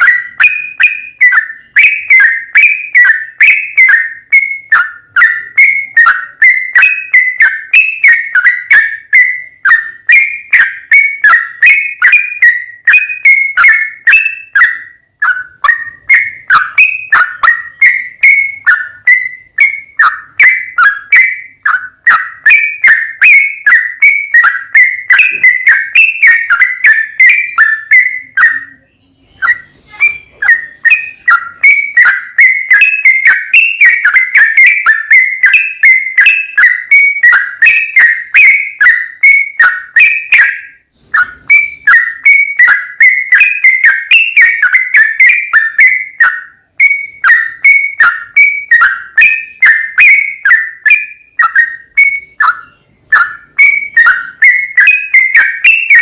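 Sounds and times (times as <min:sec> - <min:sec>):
bulbul song bubbling chirps: 0:00.0 - 0:56.0.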